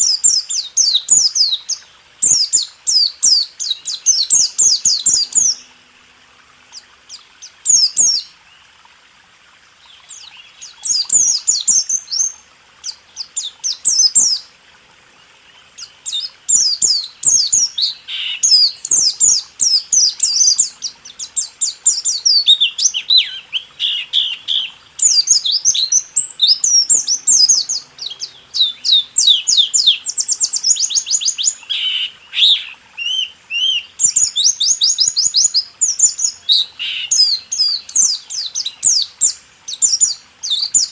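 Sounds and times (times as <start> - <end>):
bird singing high chirps: 0.0 - 5.8, 6.7 - 8.4, 9.8 - 14.5, 15.5 - 40.9.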